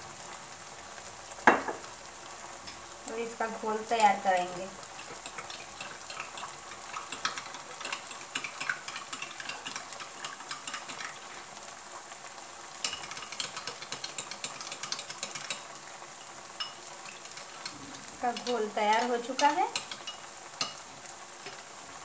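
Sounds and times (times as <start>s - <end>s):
sauce sizzling in a wok: 0.0s - 22.0s.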